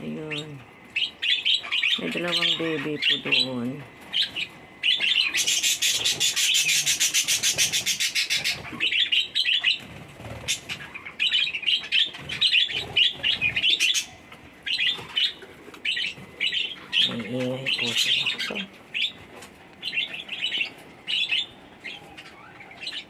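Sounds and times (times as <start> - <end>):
lovebirds chirping: 0.0 - 23.0.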